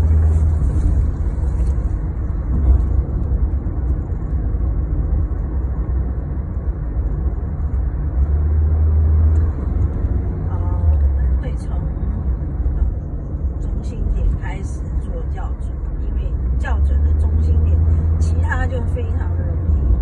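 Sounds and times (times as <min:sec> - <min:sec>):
road noise: 0:00.0 - 0:20.0
vehicle engine hum: 0:00.0 - 0:20.0.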